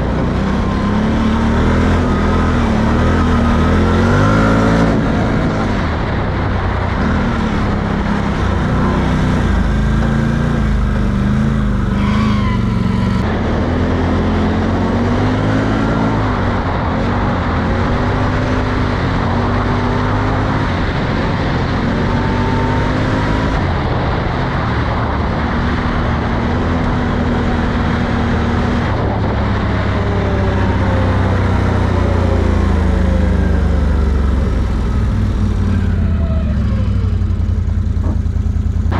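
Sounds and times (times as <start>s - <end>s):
atv engine revving: 0.0s - 6.0s, 6.9s - 23.6s, 25.8s - 38.9s.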